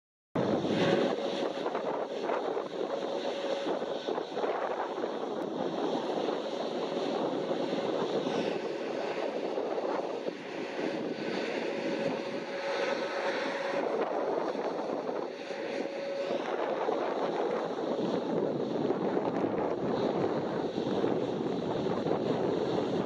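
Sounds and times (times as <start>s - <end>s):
jet engines humming: 0.4s - 23.0s.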